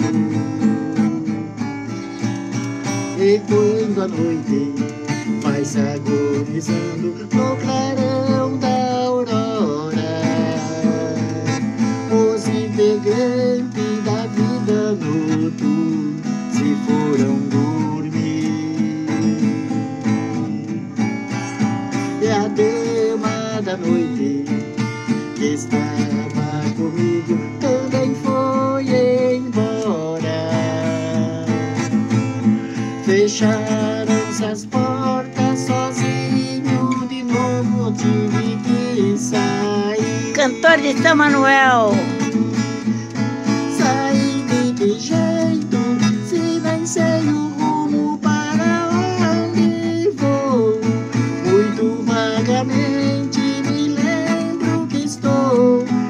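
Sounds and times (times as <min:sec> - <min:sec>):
man singing country ballad: 0:00.0 - 0:20.8, 0:21.9 - 0:56.0
acoustic guitar strumming: 0:00.0 - 0:56.0.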